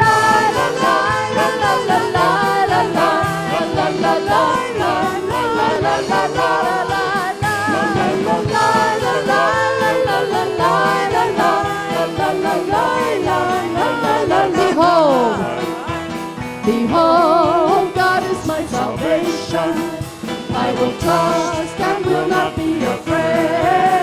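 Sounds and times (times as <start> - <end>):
band playing praise song: 0.0 - 24.0
voices singing along: 0.0 - 24.0.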